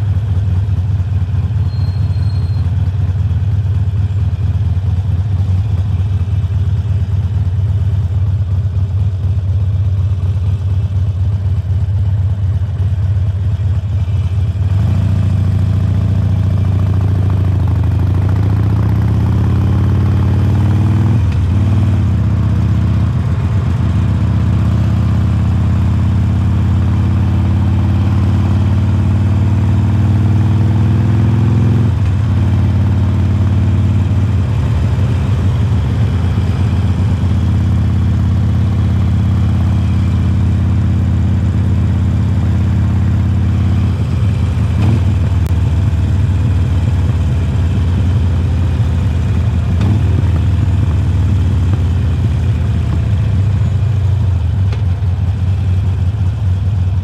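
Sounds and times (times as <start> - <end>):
motorcycle engine accelerating: 11.4 - 57.0.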